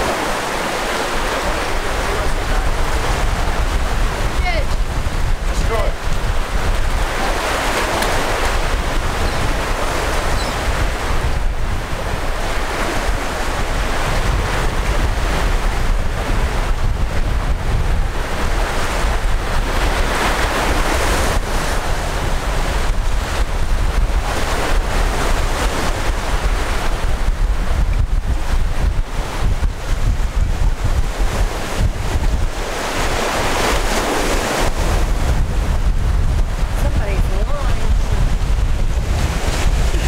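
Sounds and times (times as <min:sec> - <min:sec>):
ocean surf: 0:00.0 - 0:40.0
wind buffeting microphone: 0:00.0 - 0:40.0.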